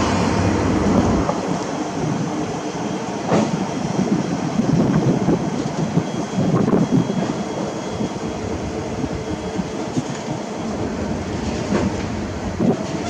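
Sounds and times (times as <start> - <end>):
train wagons clattering: 0.0 - 8.1, 9.4 - 13.0
diesel train rolling past: 0.0 - 13.0
wind buffeting microphone: 0.0 - 13.0.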